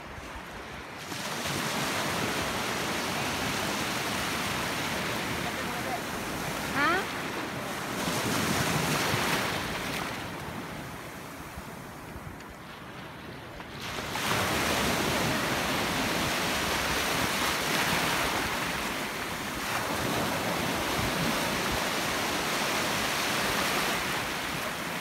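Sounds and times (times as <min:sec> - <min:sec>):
surf breaking in shallows: 0:00.9 - 0:10.7, 0:11.3 - 0:25.0.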